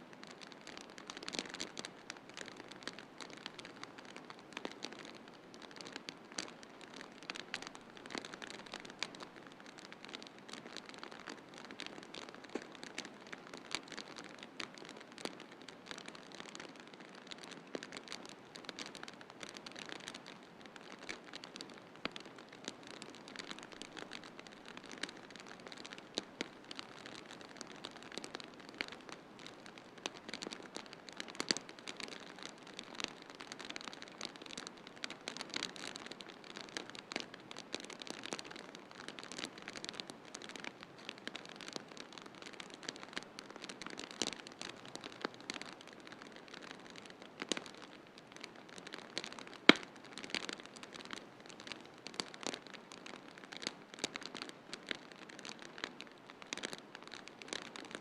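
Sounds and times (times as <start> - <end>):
wood fire crackling: 0.2 - 58.0.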